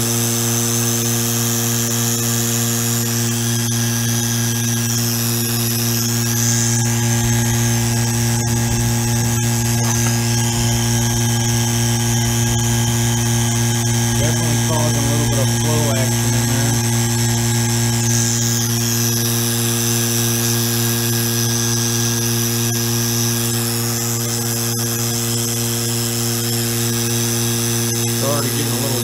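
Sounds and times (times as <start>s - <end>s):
vacuum pump motor humming: 0.0s - 29.0s.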